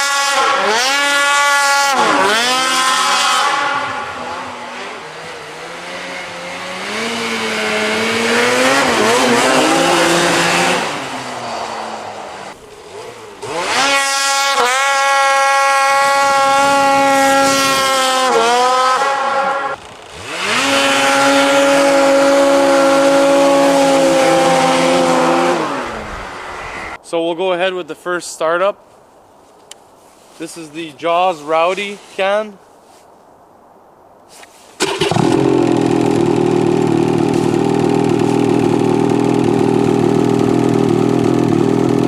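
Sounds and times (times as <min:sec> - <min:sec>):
snowmobile engine revving: 0:00.0 - 0:27.0, 0:34.8 - 0:42.0.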